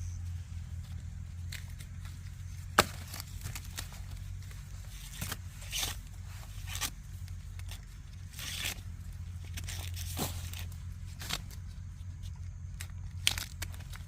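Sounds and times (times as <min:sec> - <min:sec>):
corn husks snapping and tearing: 0:00.8 - 0:14.0.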